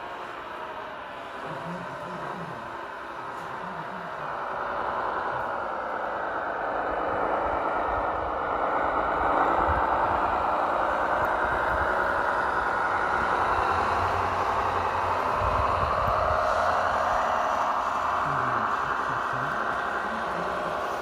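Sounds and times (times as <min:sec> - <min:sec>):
low rumble with rattle: 0:00.0 - 0:21.0
toy truck engine running: 0:00.0 - 0:21.0.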